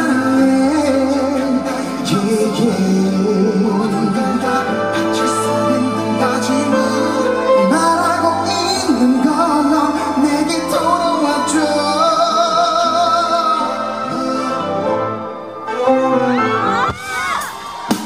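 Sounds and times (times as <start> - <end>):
live pop ballad by band: 0.0 - 15.3.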